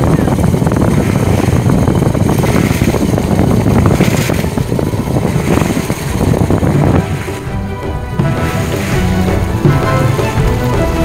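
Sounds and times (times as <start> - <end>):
boat engine running: 0.0 - 11.0
wind on microphone: 0.0 - 11.0.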